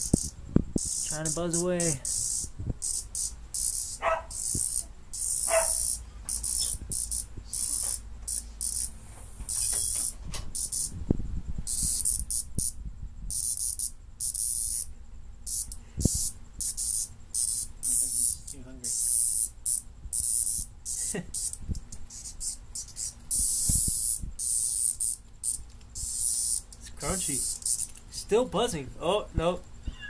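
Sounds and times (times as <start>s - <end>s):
cicada buzzing: 0.0s - 29.5s.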